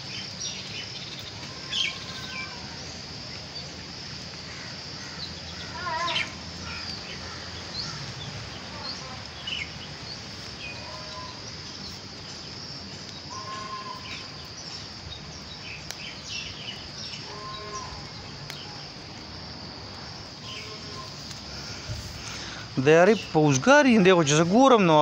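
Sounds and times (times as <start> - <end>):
birds chirping: 0.0 - 25.0
insects droning: 0.0 - 25.0.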